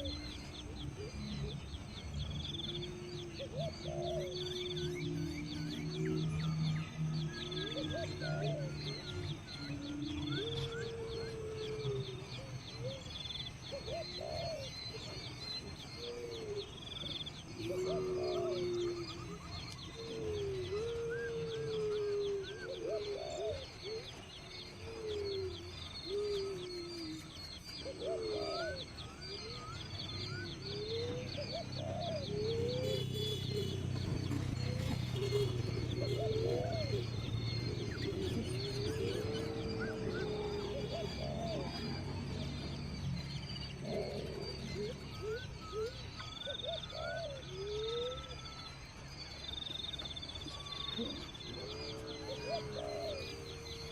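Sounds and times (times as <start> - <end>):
birds chirping: 0.0 - 53.9
swooping bird calls: 0.0 - 53.9.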